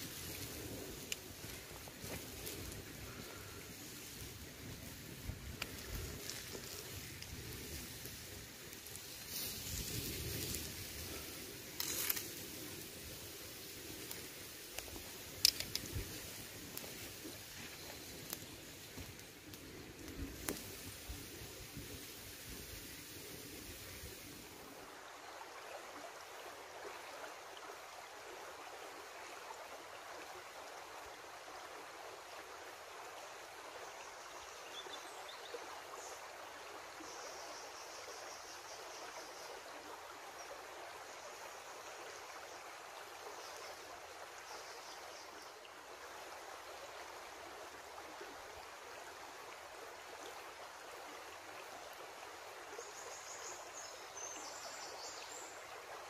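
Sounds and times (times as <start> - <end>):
creek babbling over rocks: 0.0 - 56.0.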